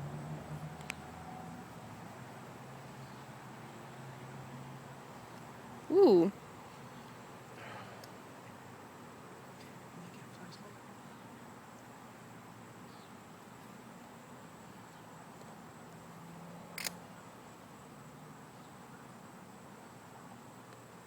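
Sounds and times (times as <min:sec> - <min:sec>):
faint night ambience hiss: 0:00.0 - 0:21.0.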